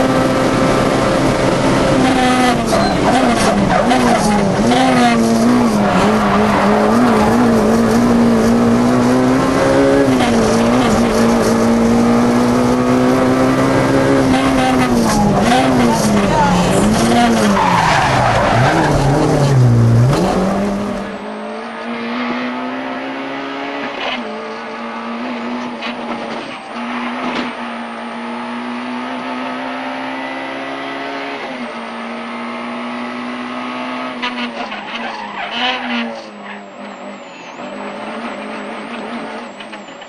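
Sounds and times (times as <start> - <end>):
car engine revving hard: 0.0 - 36.2.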